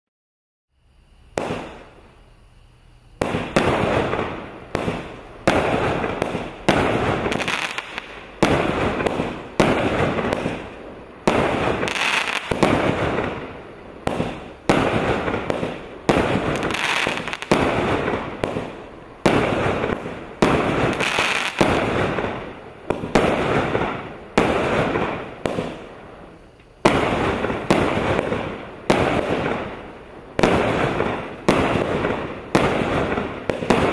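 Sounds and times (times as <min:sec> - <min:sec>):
firework shots banging: 0:01.3 - 0:02.0, 0:03.2 - 0:33.9.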